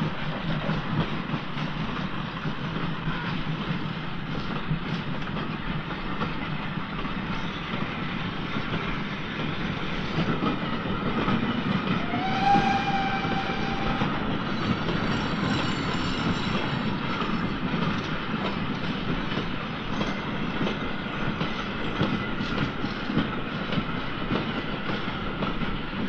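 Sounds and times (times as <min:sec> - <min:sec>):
steam locomotive rumble: 0:00.0 - 0:26.0
wagons clattering on rails: 0:00.2 - 0:26.0.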